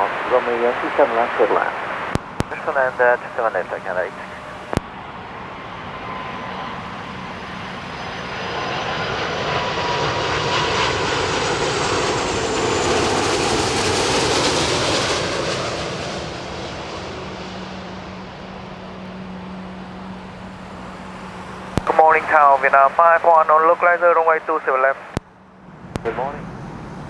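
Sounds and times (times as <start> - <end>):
jet airliner passing overhead: 0.0 - 27.0
jet engine whine dropping in pitch: 0.0 - 27.0.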